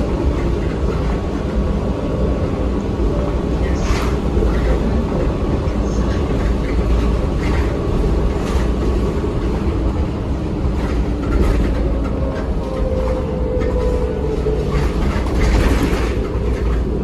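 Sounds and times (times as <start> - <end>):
bus drivetrain and road rumble: 0.0 - 17.0.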